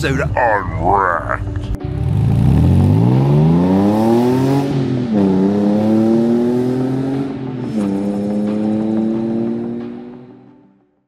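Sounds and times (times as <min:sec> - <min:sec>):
sports car accelerating and shifting: 0:01.6 - 0:10.6.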